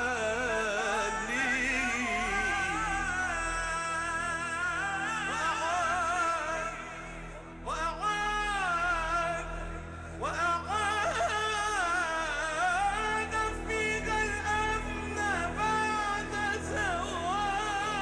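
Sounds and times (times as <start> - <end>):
man singing devotional song: 0.0 - 18.0
sustained low accompaniment: 0.0 - 18.0.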